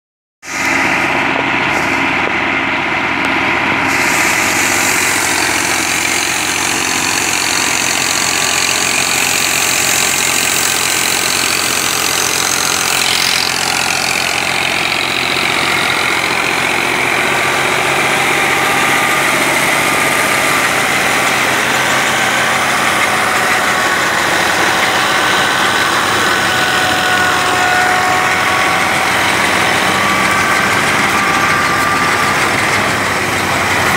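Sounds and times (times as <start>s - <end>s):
tractor diesel engine: 0.4s - 33.9s
thresher mechanical din: 0.7s - 33.9s.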